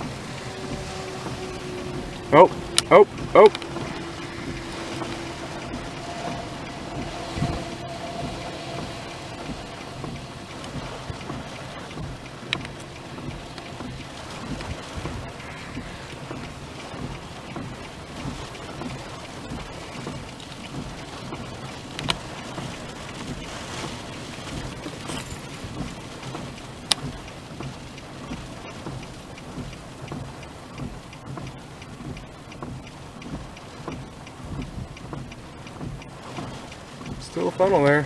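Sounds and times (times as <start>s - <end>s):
sharp ticks: 0.0s - 23.3s, 23.9s - 37.7s
rain on a car roof: 0.0s - 38.0s.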